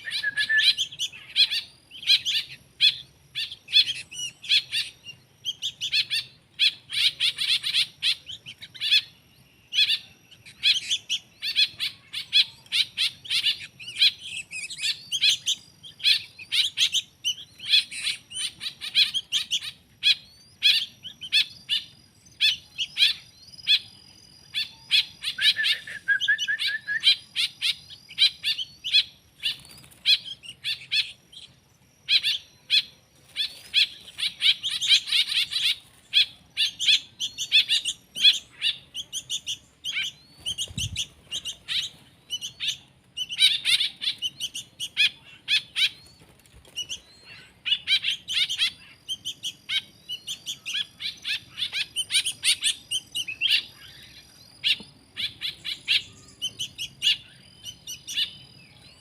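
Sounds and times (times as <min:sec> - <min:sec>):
low bird trill: 0:00.0 - 0:59.0
songbirds chirping: 0:00.0 - 0:59.0.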